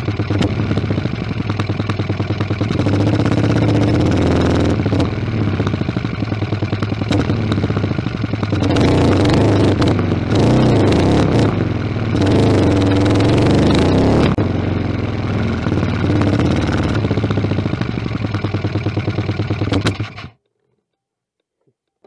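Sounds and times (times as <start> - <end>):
engine intake noise: 0.0 - 20.2.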